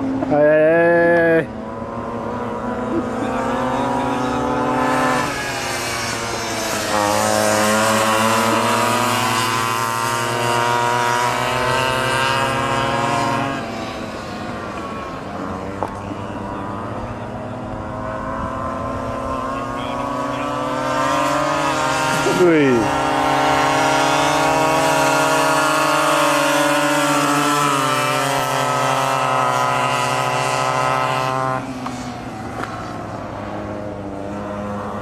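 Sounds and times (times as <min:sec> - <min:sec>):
minibike engines revving: 0:00.0 - 0:35.0.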